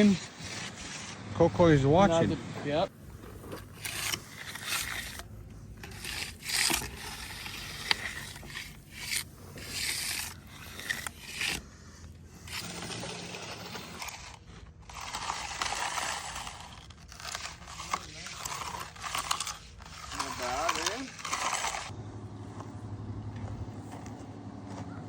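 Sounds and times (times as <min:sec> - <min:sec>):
broom scraping concrete: 0:00.0 - 0:21.9.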